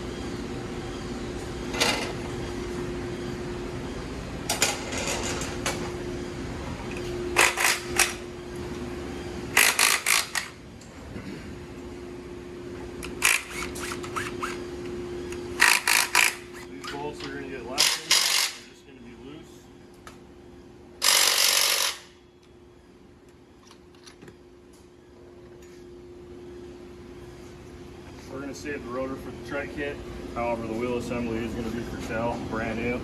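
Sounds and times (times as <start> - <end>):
steady workshop hum: 0.0 - 33.0.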